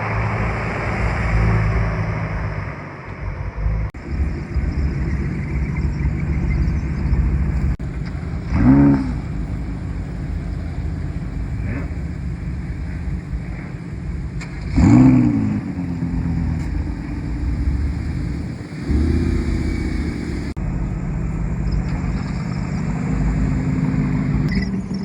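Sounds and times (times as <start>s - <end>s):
car engines rumbling: 0.0s - 25.0s
engine throttle blip: 4.0s - 25.0s.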